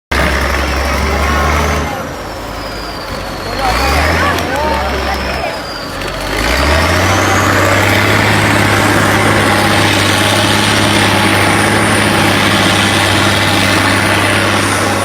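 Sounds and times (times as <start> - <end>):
heavy engine running: 0.1 - 15.0.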